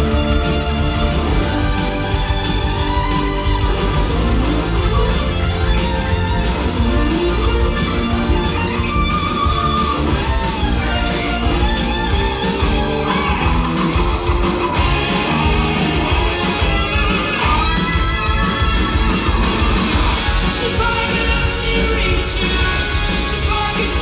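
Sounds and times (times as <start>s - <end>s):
background rock music: 0.0s - 24.0s.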